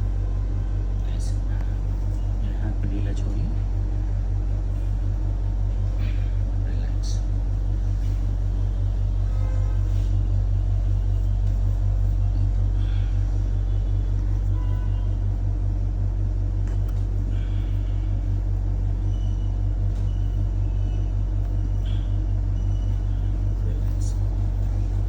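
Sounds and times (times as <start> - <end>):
loud fluttering low rumble: 0.0 - 25.0.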